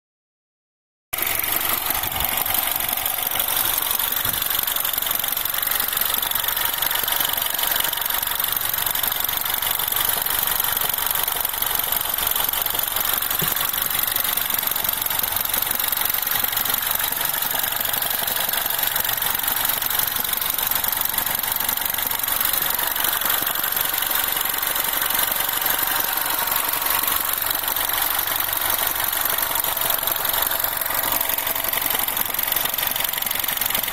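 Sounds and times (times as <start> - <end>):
car engine idling: 1.2 - 33.9.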